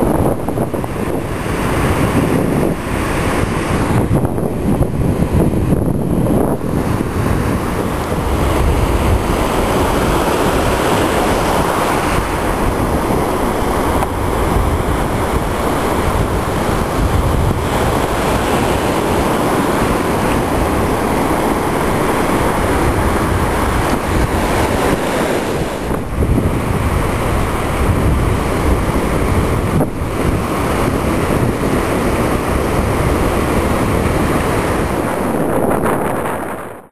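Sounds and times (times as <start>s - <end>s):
ocean surf breaking: 0.0s - 36.9s
wind buffeting microphone: 0.0s - 36.9s.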